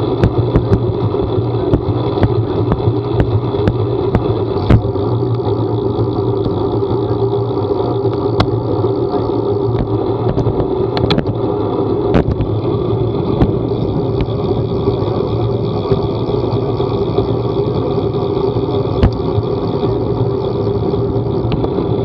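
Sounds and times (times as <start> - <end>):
vehicle engine and road drone: 0.0 - 22.0
sharp ticks: 0.1 - 11.4, 13.3 - 21.9.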